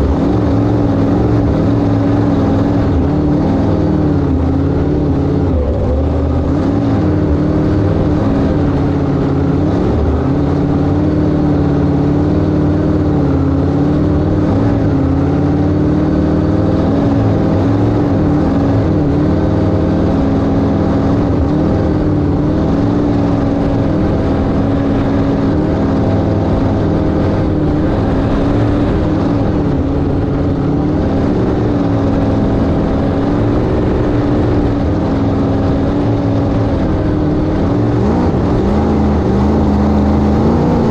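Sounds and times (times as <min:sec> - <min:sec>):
boat engine cruising: 0:00.0 - 0:40.9.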